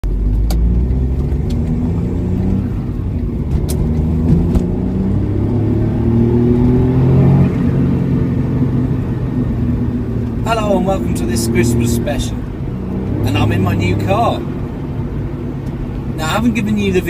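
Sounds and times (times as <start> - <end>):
car engine pulling under load: 0.0 - 16.4.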